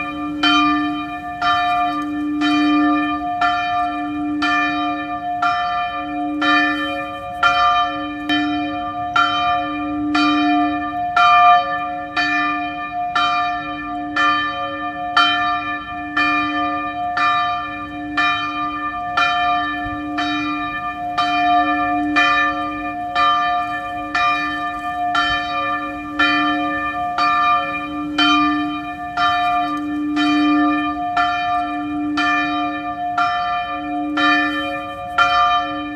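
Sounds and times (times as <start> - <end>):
church bell ringing: 0.0 - 35.9.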